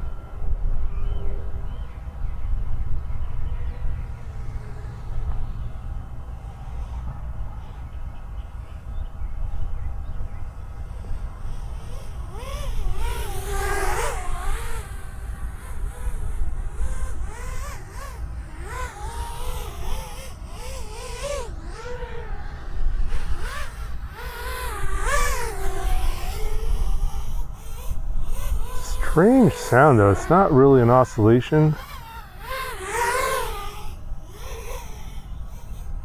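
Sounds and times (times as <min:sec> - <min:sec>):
quadcopter motors whining: 0:00.0 - 0:36.0.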